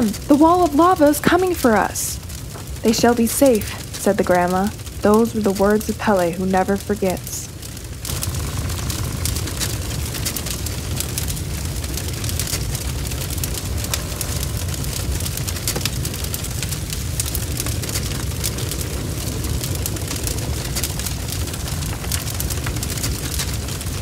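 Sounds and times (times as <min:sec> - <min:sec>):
dense crackling: 0:00.0 - 0:24.0
low rumble: 0:00.0 - 0:24.0.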